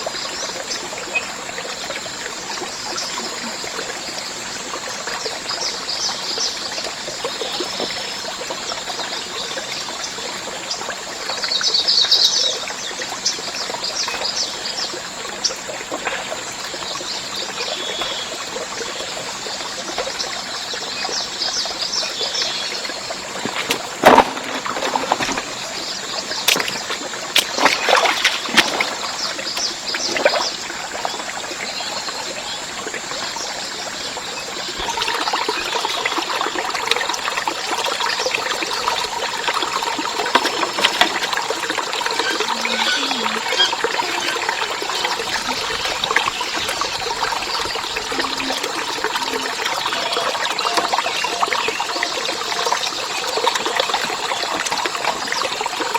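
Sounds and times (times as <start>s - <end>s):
water trickling and pouring: 0.0s - 55.9s.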